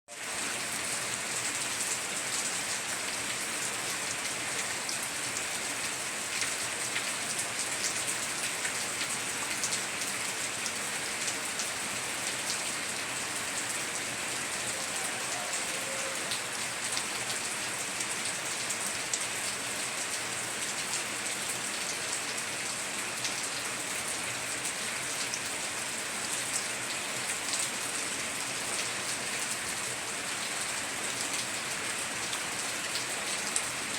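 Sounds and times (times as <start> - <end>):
heavy rain on a tiled roof: 0.1 - 33.9.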